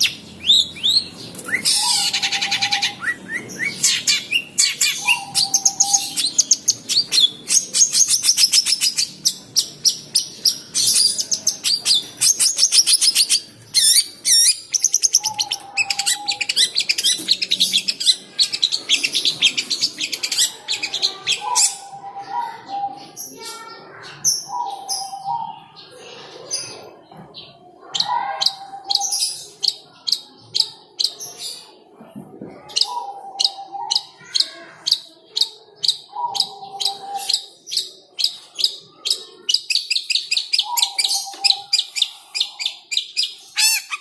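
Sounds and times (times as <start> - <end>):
bird song with chirps and trills: 0.0 - 44.0.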